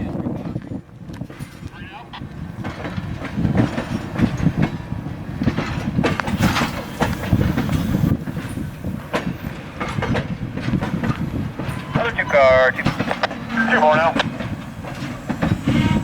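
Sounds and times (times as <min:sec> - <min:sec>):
train cars rumbling on track: 0:00.0 - 0:16.0
wheels clicking over rail joints: 0:00.1 - 0:16.0.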